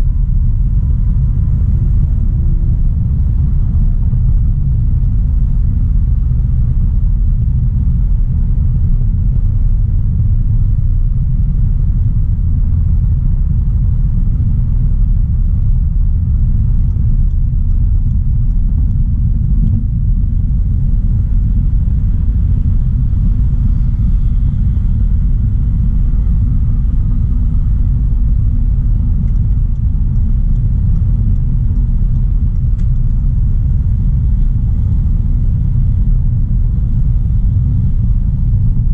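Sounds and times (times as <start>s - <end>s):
low road and engine rumble: 0.0s - 38.9s.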